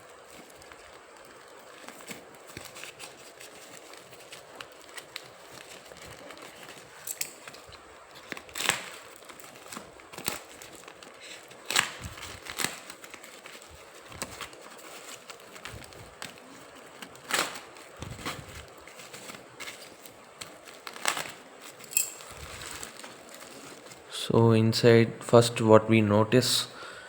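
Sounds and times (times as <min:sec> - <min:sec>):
packaging crinkling and tearing: 0:00.0 - 0:24.1.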